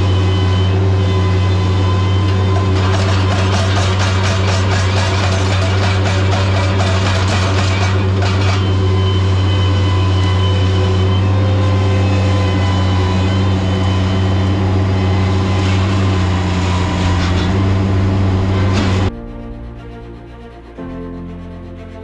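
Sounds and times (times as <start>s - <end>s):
heavy engine humming: 0.0s - 22.0s.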